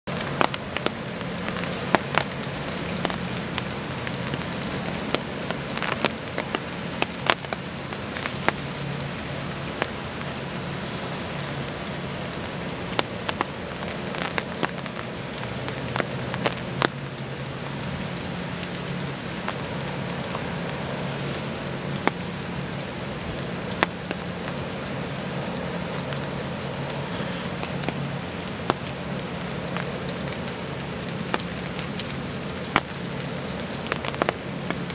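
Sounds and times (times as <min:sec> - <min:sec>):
steady rain: 0:00.0 - 0:34.9
raindrops ticking near microphone: 0:00.1 - 0:34.9.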